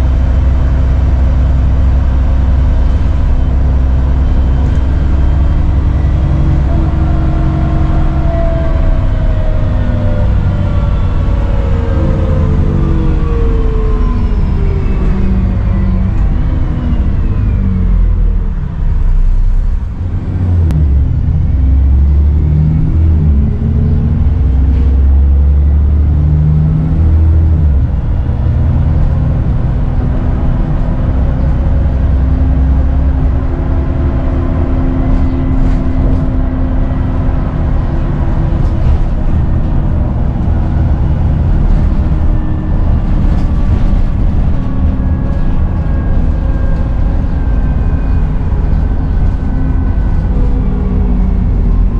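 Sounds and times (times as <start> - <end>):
bus engine drone: 0.0 - 51.9.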